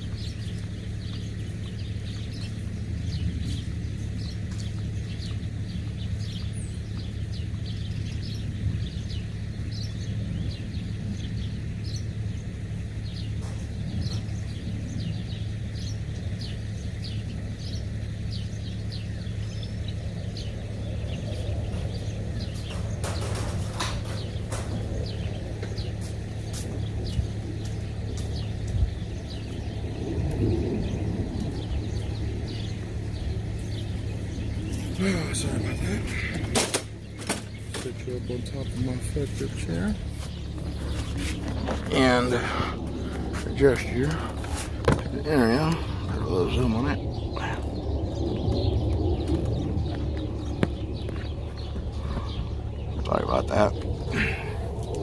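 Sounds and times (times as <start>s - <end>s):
low outdoor hum: 0.0s - 55.0s
small birds chirping: 0.0s - 55.0s.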